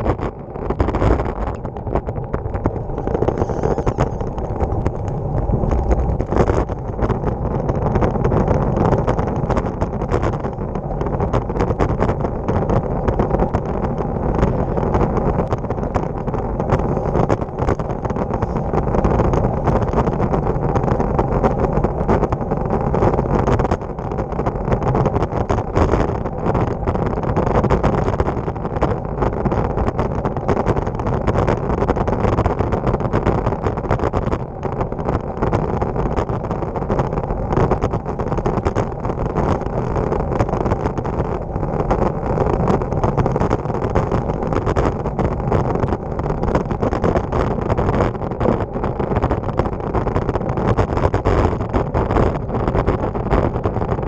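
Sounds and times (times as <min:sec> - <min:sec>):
bike tyre road vibration: 0:00.0 - 0:54.0
wind on microphone: 0:00.0 - 0:54.0.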